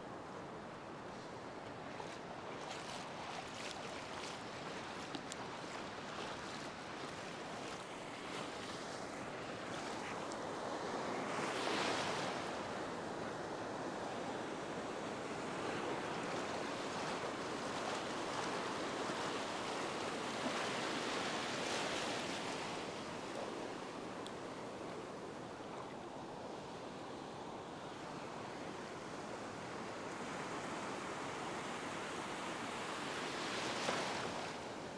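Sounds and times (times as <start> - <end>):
small waves breaking: 0.4 - 12.7, 15.3 - 34.9.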